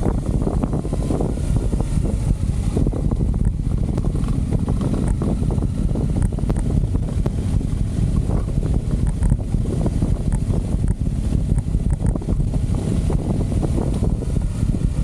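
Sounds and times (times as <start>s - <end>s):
motorcycle engine rumble: 0.0s - 15.0s
wind buffeting microphone: 0.0s - 15.0s.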